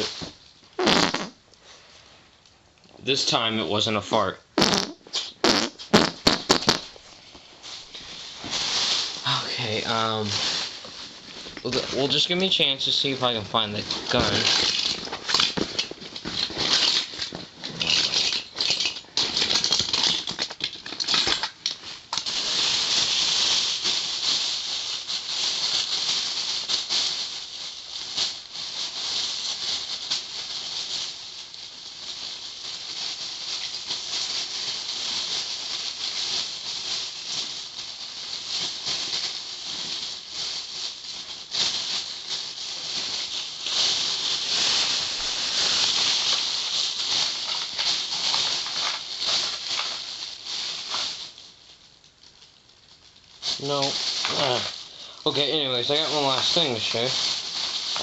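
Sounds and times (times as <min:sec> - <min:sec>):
plastic bags and toys rustling: 0:00.0 - 0:01.0, 0:05.4 - 0:58.0.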